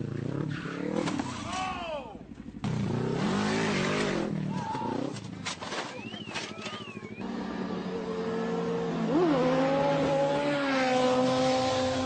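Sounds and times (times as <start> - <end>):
vehicle engine running and revving: 0.0 - 1.3, 2.3 - 12.0.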